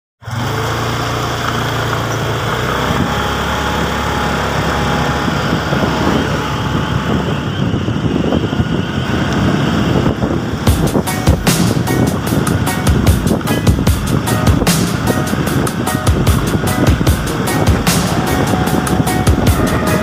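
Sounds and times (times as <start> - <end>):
motorcycle engine running: 0.2 - 20.0
wind and road noise: 0.2 - 20.0.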